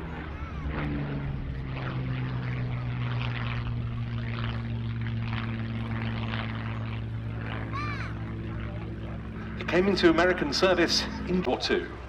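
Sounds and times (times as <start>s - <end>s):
aircraft engine drone: 0.0s - 12.0s
propeller rasp: 0.0s - 12.0s.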